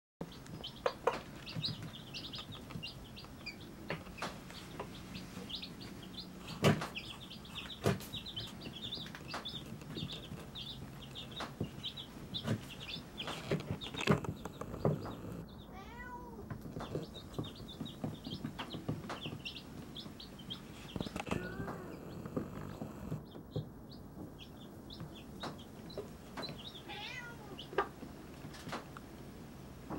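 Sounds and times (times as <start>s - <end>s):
baby chicks peeping: 0.2s - 29.9s.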